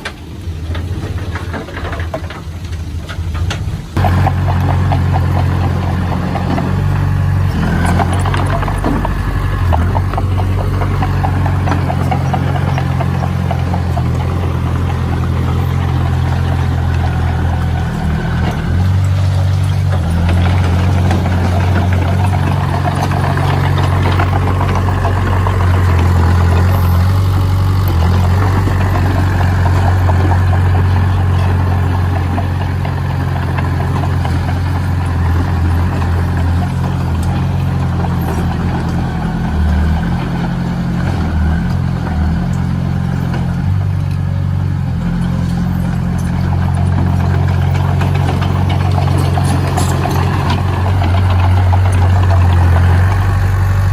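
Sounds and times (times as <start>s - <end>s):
construction machine engine drone: 0.0s - 53.9s.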